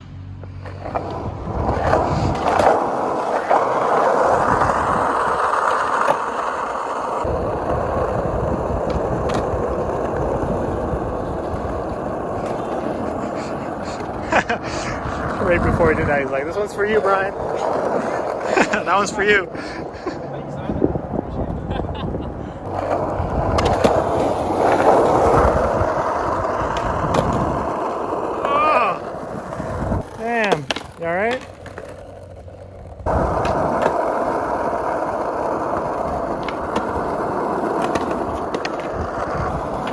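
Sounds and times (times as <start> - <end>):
skateboard wheels rolling: 0.0 - 39.9
skateboard clacks: 0.4 - 39.9.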